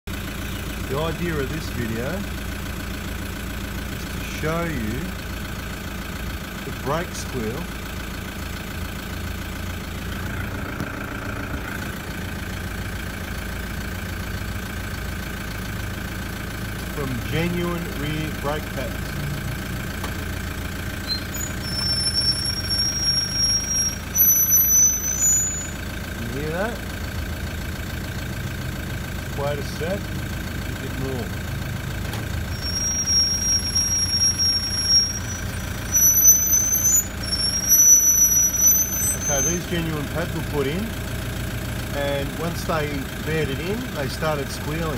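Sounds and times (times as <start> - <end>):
car engine idling: 0.0 - 44.9
brakes squealing: 0.1 - 44.9.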